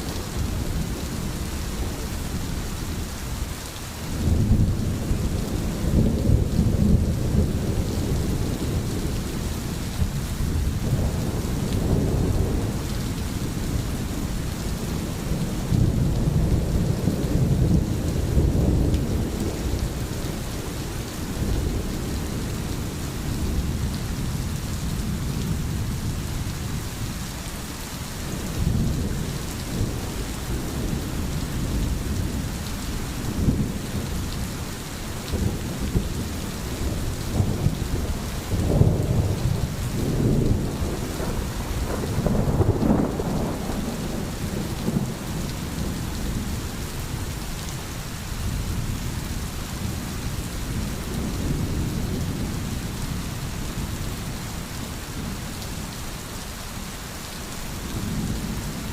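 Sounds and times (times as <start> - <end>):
steady rain: 0.0 - 58.9
low thunder rumbling: 4.2 - 26.4, 28.2 - 47.4, 48.4 - 55.9.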